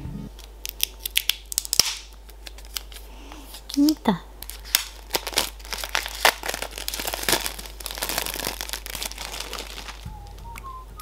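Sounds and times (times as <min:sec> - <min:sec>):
plastic packaging crinkling: 0:00.4 - 0:10.6.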